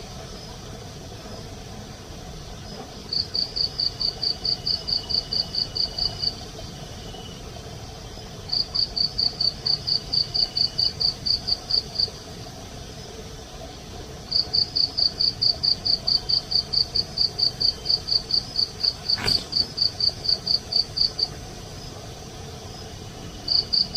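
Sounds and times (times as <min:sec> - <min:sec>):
cricket chirping: 0:02.4 - 0:23.9.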